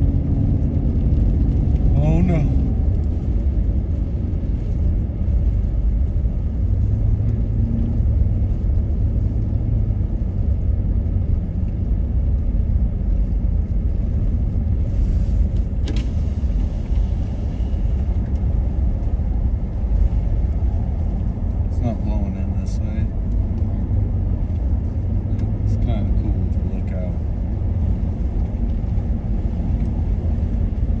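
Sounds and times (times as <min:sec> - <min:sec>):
car engine rumbling: 0:00.0 - 0:31.0
tyres on snowy road: 0:00.0 - 0:31.0.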